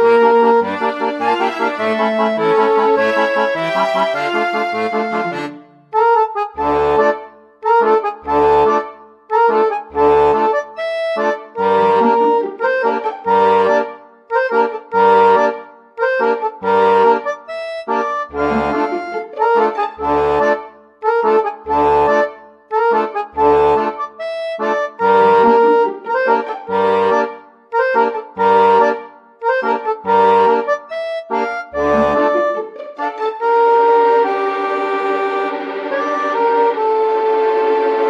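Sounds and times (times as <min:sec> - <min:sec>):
instrumental music with bouncy beat: 0:00.0 - 0:38.0.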